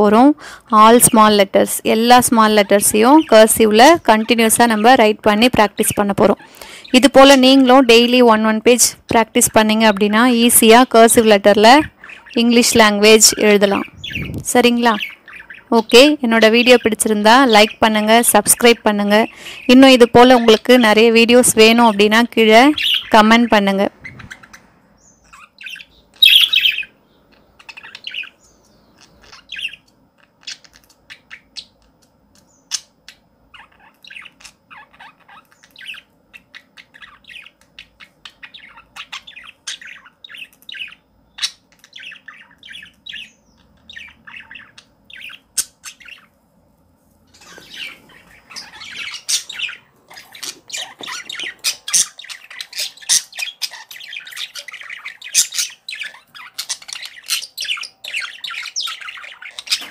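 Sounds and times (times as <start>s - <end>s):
birds chirping and squawking: 0.0s - 46.4s, 47.2s - 59.9s.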